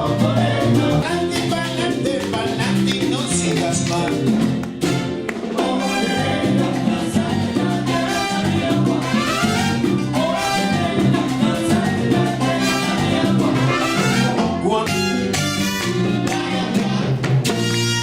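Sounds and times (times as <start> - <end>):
salsa band playing: 0.0 - 18.0.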